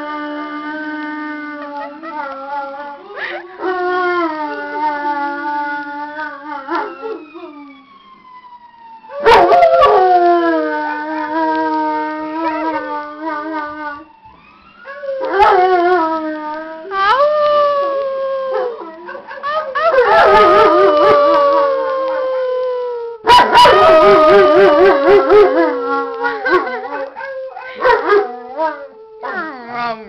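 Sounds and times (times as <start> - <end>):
dog howling: 0.0 - 7.7, 9.1 - 14.0, 14.9 - 29.5.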